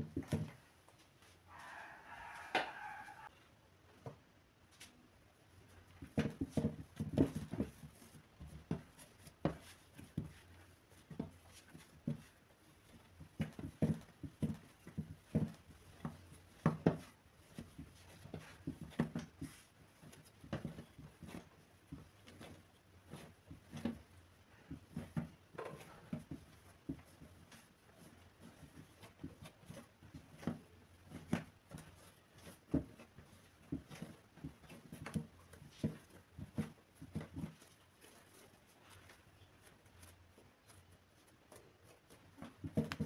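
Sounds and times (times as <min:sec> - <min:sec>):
dough thumps and pats: 0:00.0 - 0:03.3, 0:05.6 - 0:43.0.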